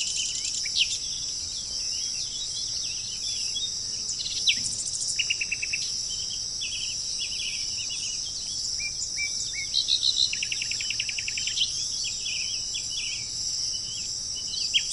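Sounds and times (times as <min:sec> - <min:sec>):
birds chirping and trilling: 0:00.0 - 0:14.9
high-pitched insect drone: 0:00.0 - 0:14.9.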